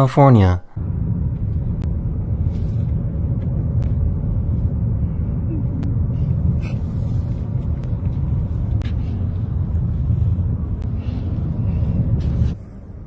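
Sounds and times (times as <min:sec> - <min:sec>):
car driving rumble: 0:00.7 - 0:13.0.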